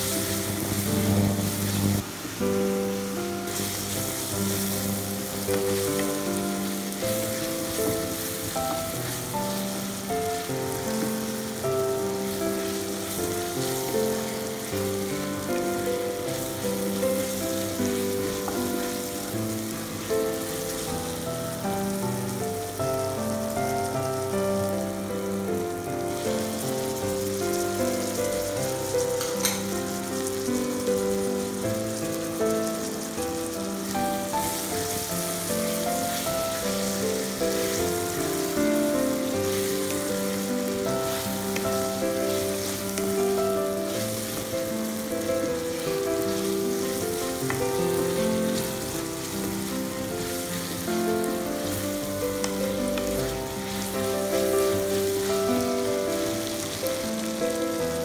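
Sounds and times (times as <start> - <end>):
instrumental music: 0.0 - 58.0
vegetables sizzling in a pan: 0.0 - 58.0.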